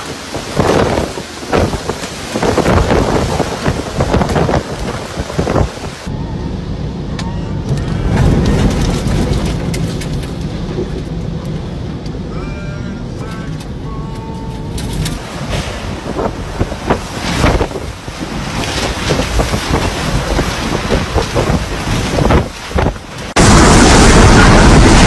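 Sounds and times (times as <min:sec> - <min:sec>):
storm wind gusting: 0:00.0 - 0:12.3, 0:14.6 - 0:25.0
rain: 0:00.0 - 0:12.4, 0:13.0 - 0:25.0.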